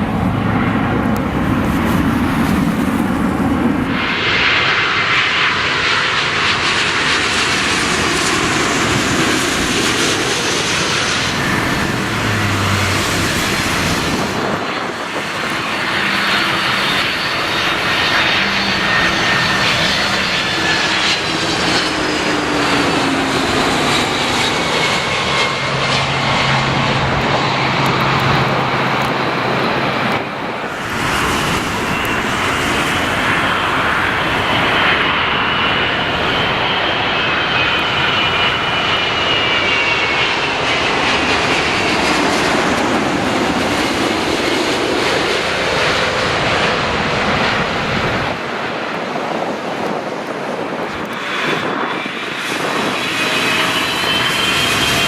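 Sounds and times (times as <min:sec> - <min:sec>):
high turbine whine: 0:00.0 - 0:55.0
jet engines roaring: 0:00.0 - 0:55.0.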